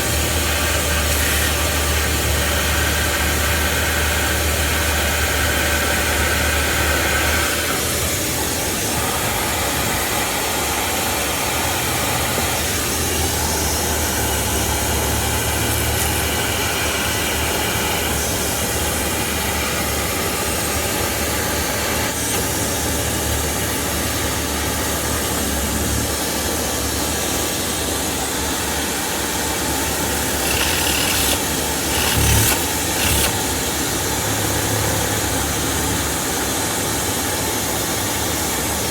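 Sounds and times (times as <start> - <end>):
motor running with hiss and hum: 0.0 - 26.6, 28.7 - 35.9.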